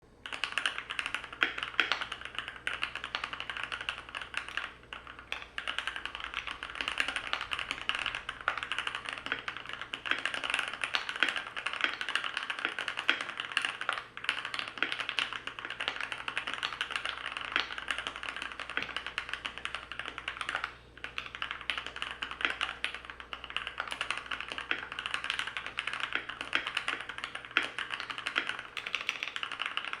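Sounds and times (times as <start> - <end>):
fast typing on mechanical keyboard: 0.2 - 30.0.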